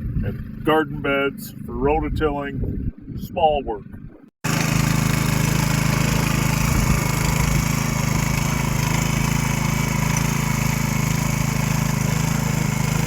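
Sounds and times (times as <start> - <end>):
small engine running steadily: 0.0 - 3.2, 3.8 - 13.0.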